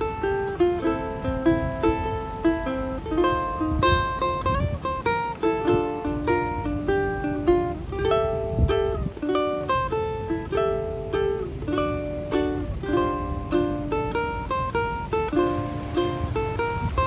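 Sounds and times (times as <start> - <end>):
ukulele melody: 0.0 - 17.0.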